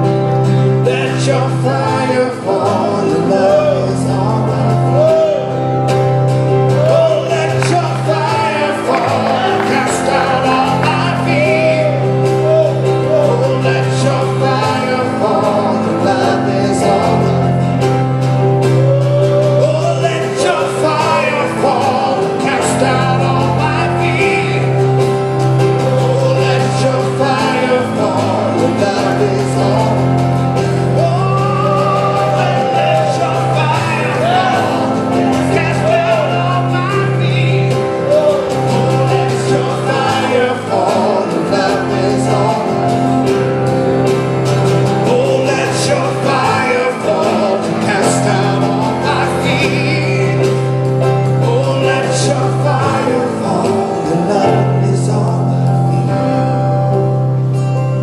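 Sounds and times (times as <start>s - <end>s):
person singing: 0.0s - 58.0s
worship band playing: 0.0s - 58.0s.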